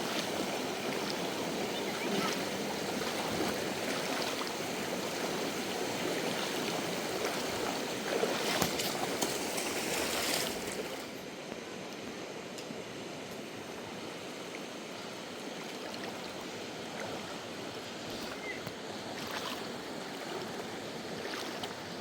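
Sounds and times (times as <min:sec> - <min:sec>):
river water rushing: 0:00.0 - 0:11.2, 0:13.6 - 0:22.0.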